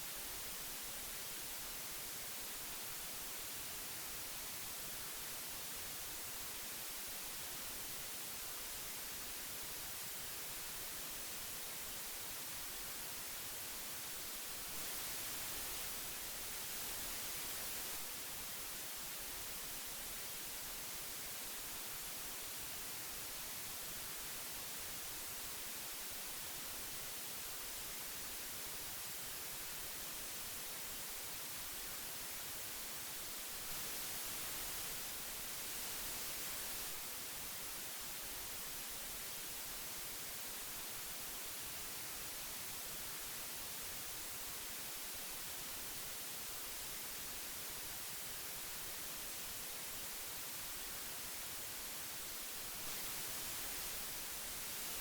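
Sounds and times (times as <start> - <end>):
tape hiss: 0.0 - 55.0.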